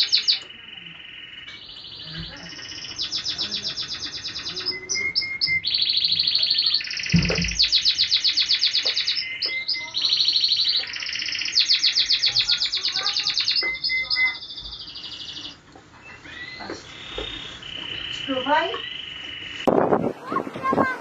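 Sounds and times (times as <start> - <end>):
birds singing high trills: 0.0 - 21.0
high bird chips: 0.0 - 21.0.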